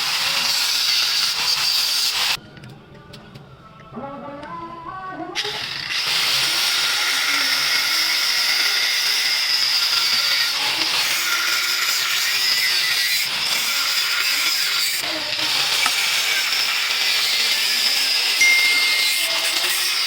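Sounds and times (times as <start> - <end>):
angle grinder cutting metal pipe: 0.0 - 2.4, 5.4 - 20.0.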